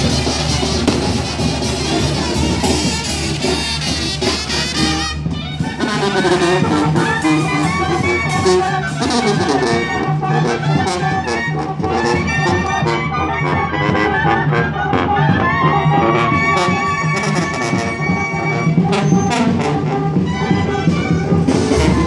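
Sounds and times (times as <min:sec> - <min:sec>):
brass band playing: 0:00.0 - 0:22.0.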